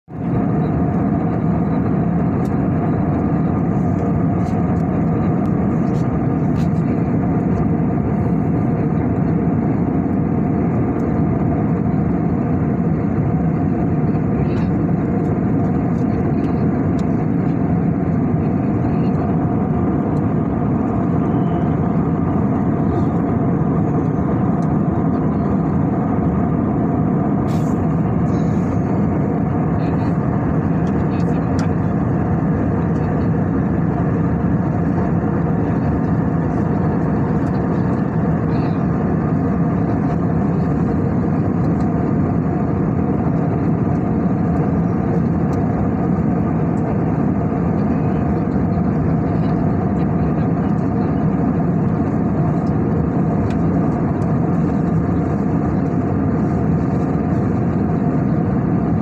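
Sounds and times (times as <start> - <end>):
jet engine drone: 0.1 - 59.0.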